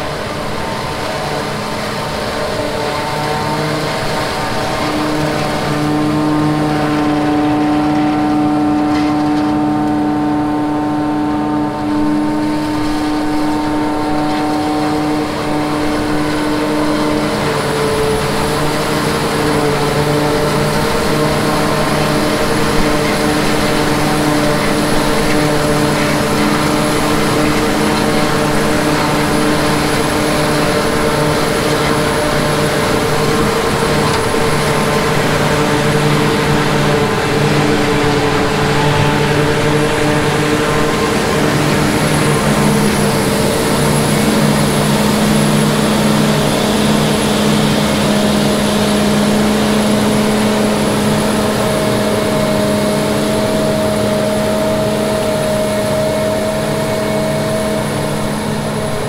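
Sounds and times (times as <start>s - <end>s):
crop rushing through harvester: 0.0s - 59.0s
forage harvester humming: 0.0s - 59.0s.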